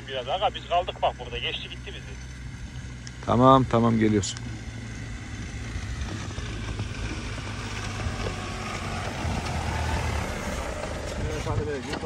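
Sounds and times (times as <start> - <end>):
off-road vehicle engine: 0.0 - 12.0.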